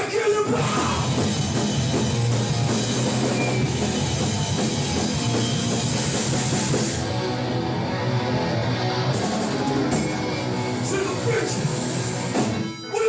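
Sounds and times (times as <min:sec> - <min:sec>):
bass guitar: 0:00.0 - 0:13.0
drum kit: 0:00.5 - 0:13.0
electric guitars: 0:00.5 - 0:13.0.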